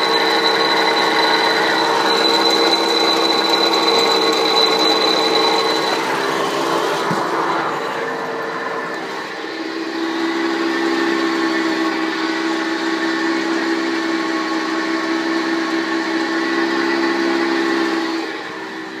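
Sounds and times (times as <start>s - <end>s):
car drivetrain whine: 0.0s - 19.0s.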